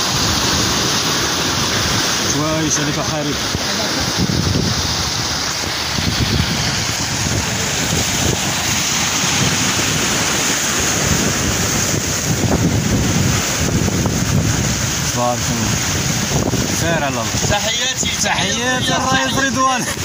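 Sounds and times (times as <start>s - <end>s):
waves washing against rocks: 0.0s - 20.0s
wind buffeting microphone: 0.0s - 20.0s.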